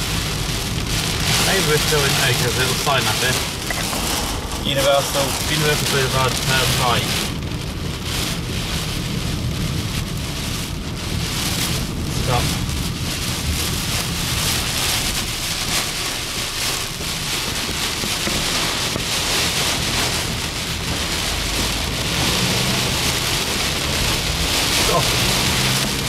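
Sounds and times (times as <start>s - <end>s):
car running rumble: 0.0s - 26.0s
heavy rain on car: 0.0s - 26.0s.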